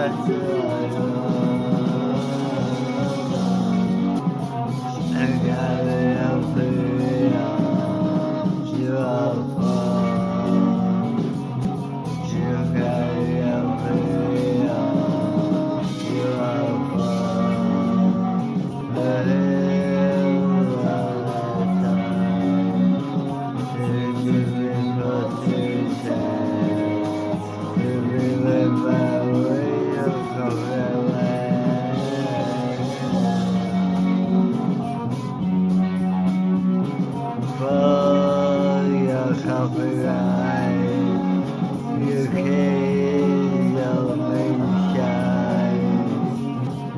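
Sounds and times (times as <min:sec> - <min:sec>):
rock song with singing and guitar: 0:00.0 - 0:46.9.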